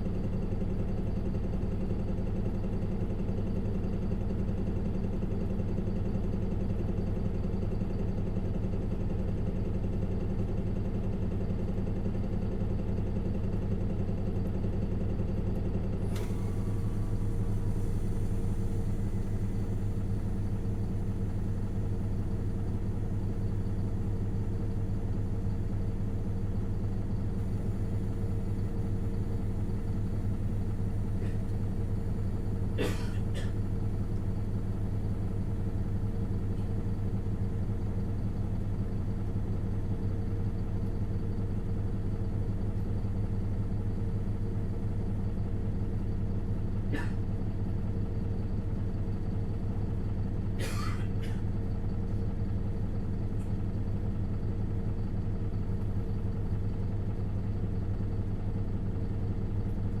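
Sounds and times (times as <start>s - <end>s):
bus diesel engine running: 0.0s - 60.0s.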